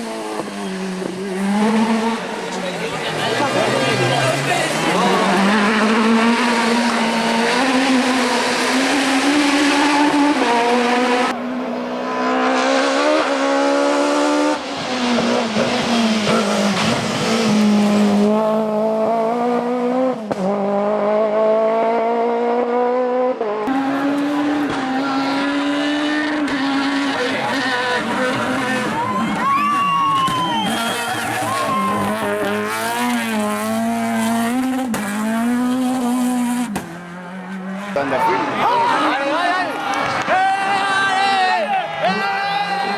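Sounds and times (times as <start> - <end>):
car engine revving hard: 0.0 - 42.9.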